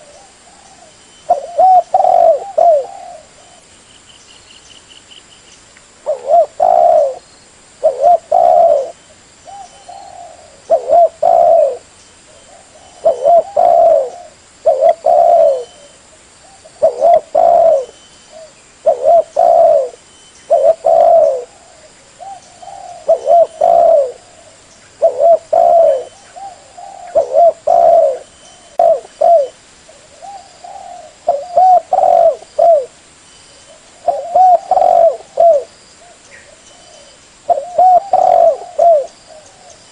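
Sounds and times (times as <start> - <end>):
dove cooing: 0.0 - 3.7, 6.0 - 7.2, 7.8 - 33.0, 33.7 - 39.9.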